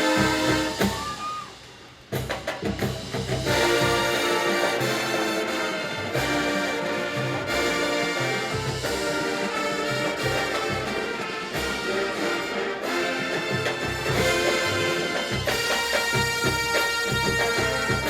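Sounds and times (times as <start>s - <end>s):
brass line playing chords: 0.0s - 1.0s, 3.4s - 18.0s.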